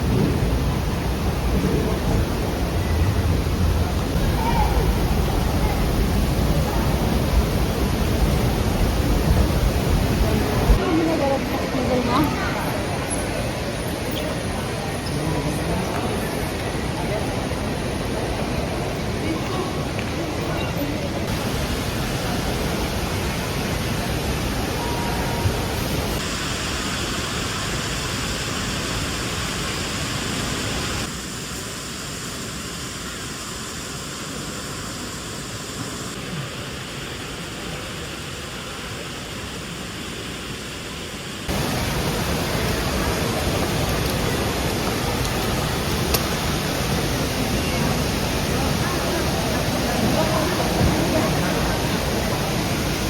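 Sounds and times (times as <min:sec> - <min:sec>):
steady rushing noise: 0:00.0 - 0:13.8, 0:21.2 - 0:53.0.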